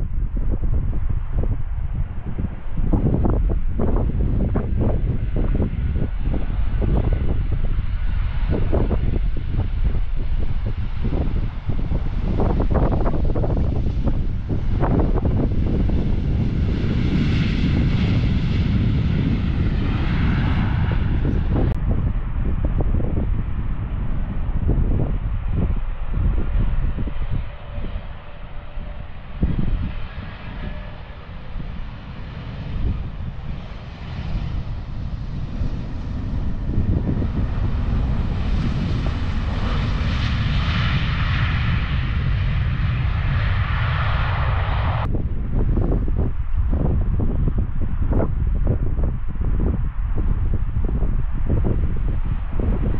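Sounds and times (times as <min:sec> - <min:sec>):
distant jet engines rushing: 0:00.0 - 0:52.9
wind buffeting microphone: 0:00.0 - 0:52.9.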